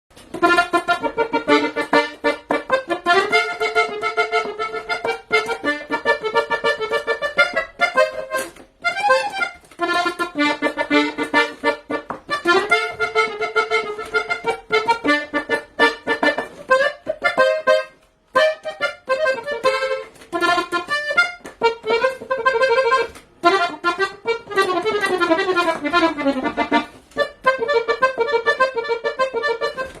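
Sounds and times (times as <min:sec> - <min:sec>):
accordion playing lively tune: 0:00.1 - 0:30.0.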